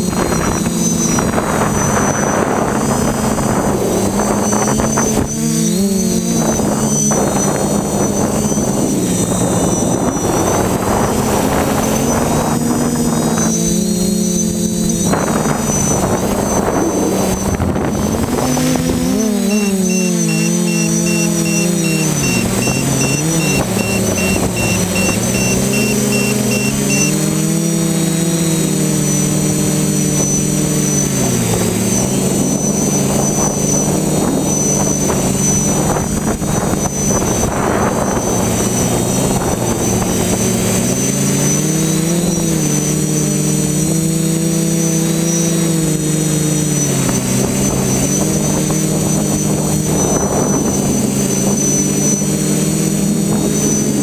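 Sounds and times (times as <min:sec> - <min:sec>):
drone motors buzzing: 0:00.0 - 0:54.0
high whine: 0:00.0 - 0:54.0.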